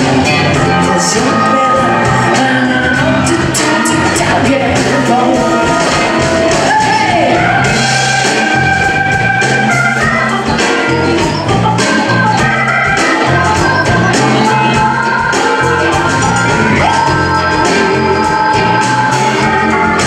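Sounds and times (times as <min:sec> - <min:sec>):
drums: 0:00.0 - 0:20.0
electric bass: 0:00.0 - 0:20.0
organ chords: 0:00.0 - 0:20.0.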